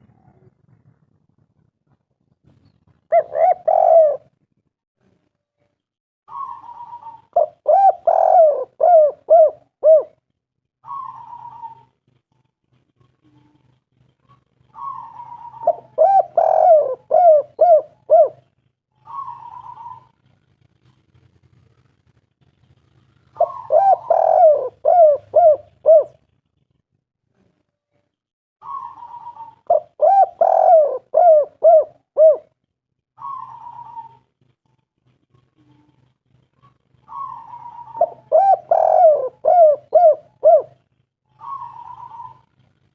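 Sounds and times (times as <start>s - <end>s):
dove cooing: 3.1s - 4.4s, 6.3s - 21.9s, 22.8s - 26.6s, 28.6s - 32.6s, 33.2s - 42.9s.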